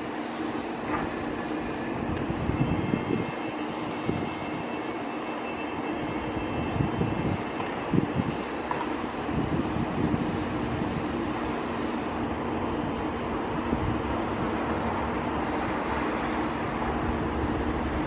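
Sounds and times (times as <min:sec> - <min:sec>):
faint high whine: 0:00.0 - 0:18.0
train rumbling: 0:00.0 - 0:18.0.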